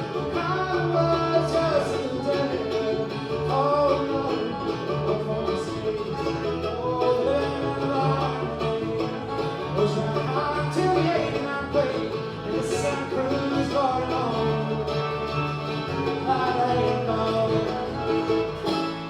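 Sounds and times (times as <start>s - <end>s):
bluegrass band playing: 0.0s - 19.0s.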